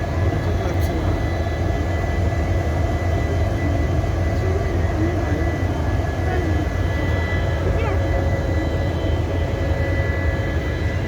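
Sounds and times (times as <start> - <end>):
diesel locomotive engine humming: 0.0 - 11.0
high whine: 0.0 - 11.0.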